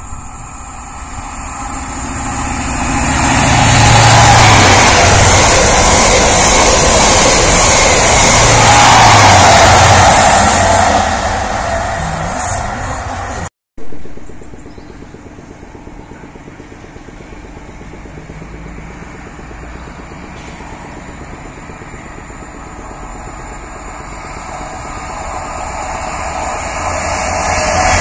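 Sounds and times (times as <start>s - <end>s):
train engine pulsing: 0.0s - 28.0s.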